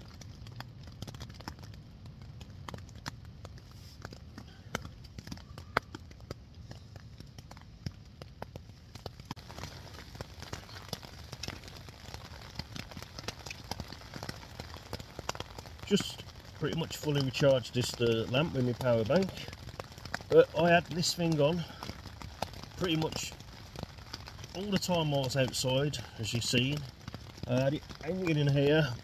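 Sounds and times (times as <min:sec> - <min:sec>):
drips pattering on tent fabric: 0:00.0 - 0:29.0
low rumble of wind: 0:00.0 - 0:29.0.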